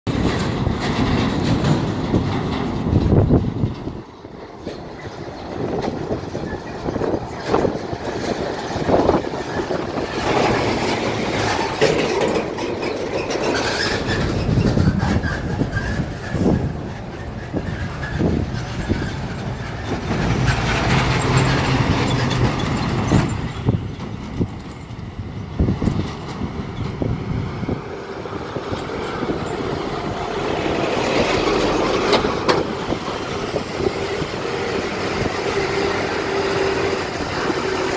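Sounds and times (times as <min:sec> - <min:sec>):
heavy diesel trucks passing: 0:00.1 - 0:37.9
truck bodies clanking and rattling: 0:00.1 - 0:37.9.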